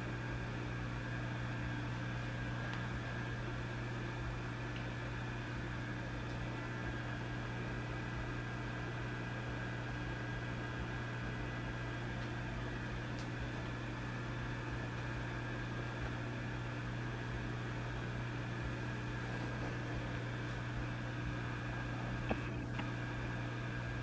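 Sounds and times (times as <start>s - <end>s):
low mains hum: 0.0s - 24.0s.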